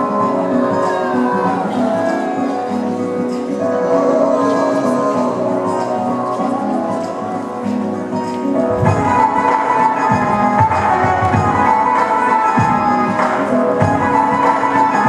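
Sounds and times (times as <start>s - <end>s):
dance music with beat: 0.0s - 15.0s.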